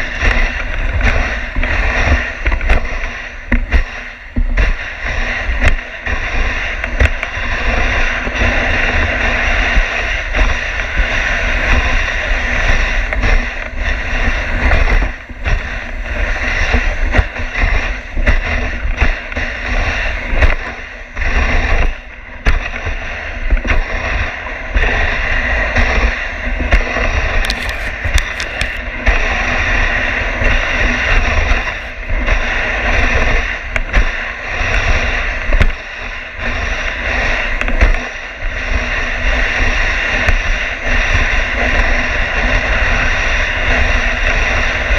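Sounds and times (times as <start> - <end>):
sled bumps and jolts: 0.0 - 44.9
sled runners hissing on snow: 0.0 - 44.9.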